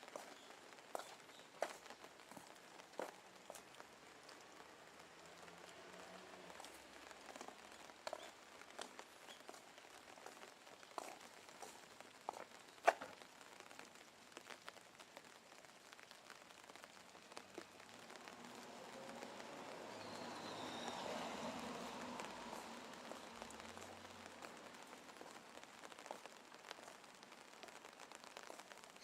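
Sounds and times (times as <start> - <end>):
light rain hiss: 0.0 - 29.0.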